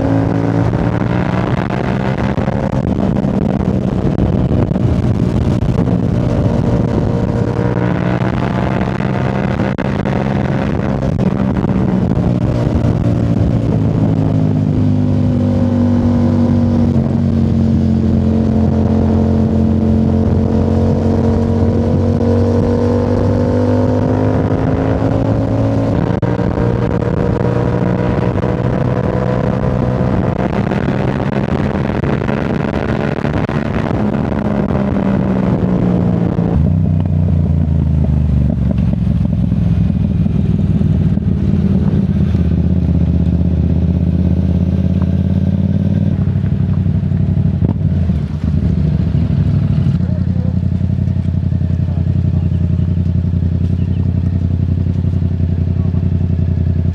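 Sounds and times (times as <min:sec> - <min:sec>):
motorcycle engine under throttle: 0:00.0 - 0:56.9.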